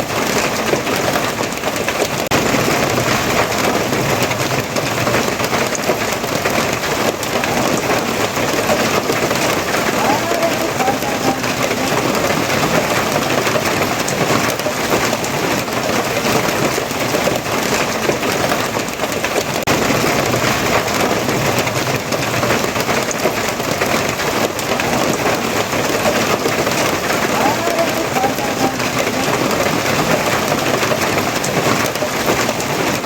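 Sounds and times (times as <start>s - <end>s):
heavy rainfall: 0.0s - 33.0s.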